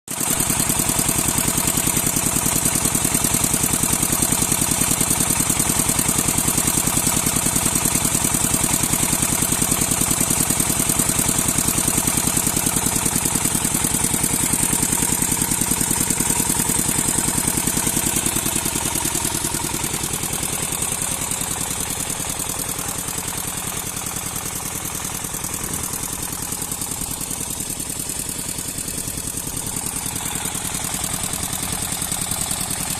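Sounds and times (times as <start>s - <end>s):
engine running with rapid beat: 0.1s - 32.9s.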